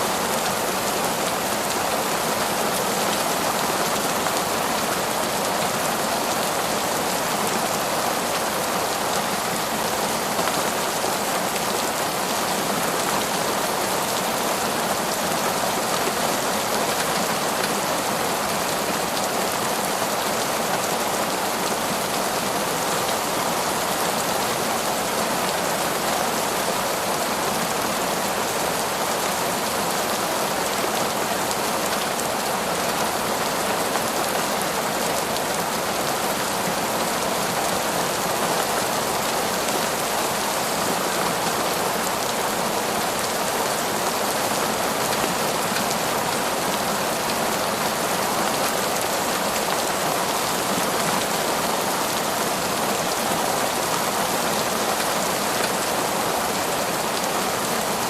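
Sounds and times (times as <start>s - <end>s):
heavy rain in forest: 0.0s - 58.0s.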